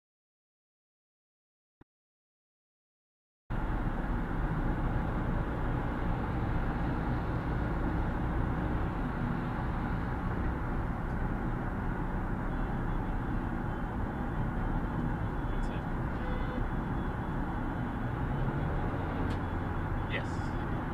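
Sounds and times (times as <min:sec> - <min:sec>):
car cabin road rumble: 0:03.5 - 0:20.9.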